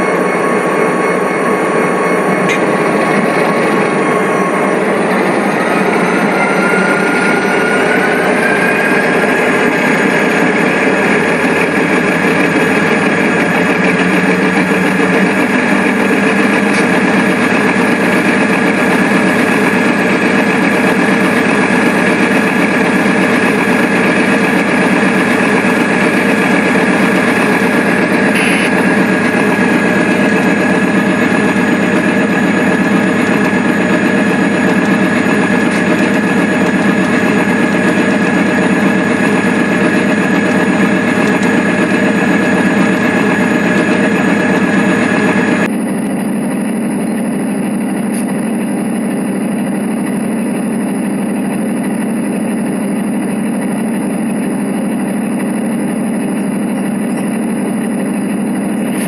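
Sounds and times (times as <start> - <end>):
constant high whine: 0.0 - 59.0
diesel locomotive engine running: 0.0 - 59.0.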